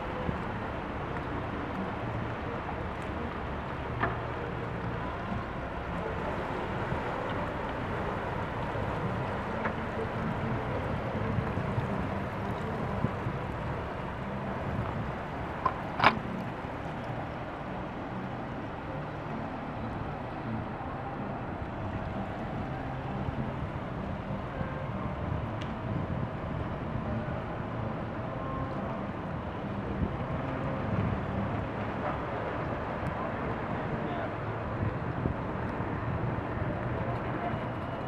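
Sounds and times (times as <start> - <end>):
boat engines droning: 0.0 - 38.0.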